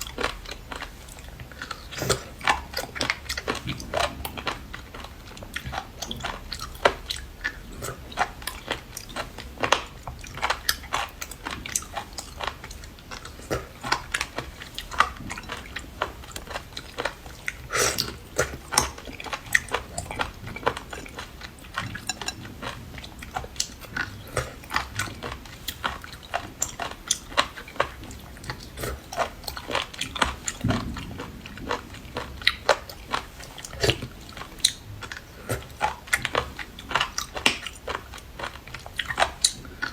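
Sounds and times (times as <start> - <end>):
chewing and biting crunches: 0.0 - 39.9.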